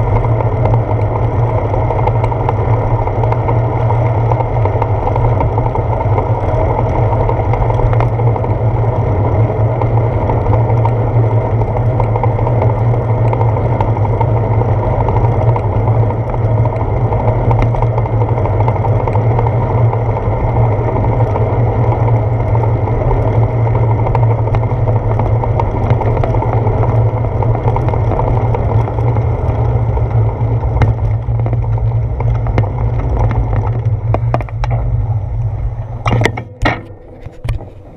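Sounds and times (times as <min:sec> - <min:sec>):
bicycle road rumble: 0:00.0 - 0:37.9.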